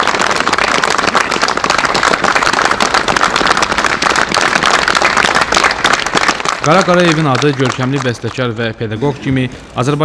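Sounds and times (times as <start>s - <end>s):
crowd applauding: 0.0s - 8.7s.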